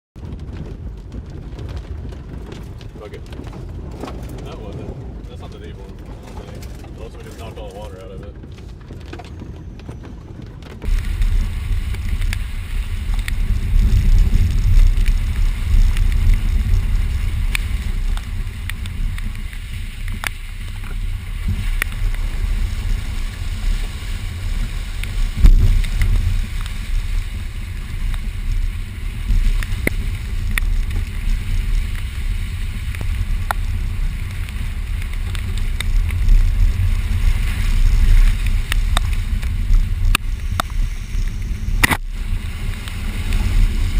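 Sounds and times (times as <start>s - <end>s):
car driving on rough trail: 0.2s - 43.9s.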